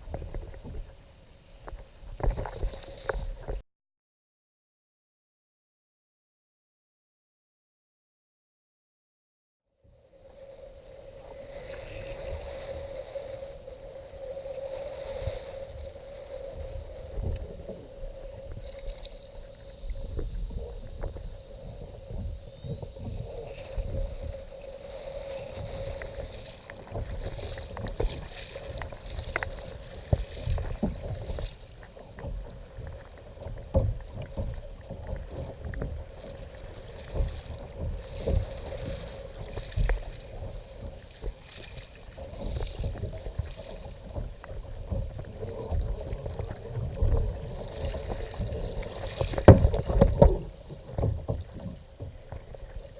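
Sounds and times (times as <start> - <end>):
water splashing against kayak: 0.0 - 3.6, 10.2 - 52.9.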